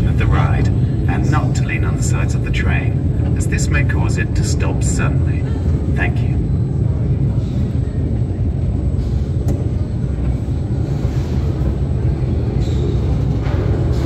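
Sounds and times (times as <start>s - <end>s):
electric train rumbling in tunnel: 0.0s - 14.0s.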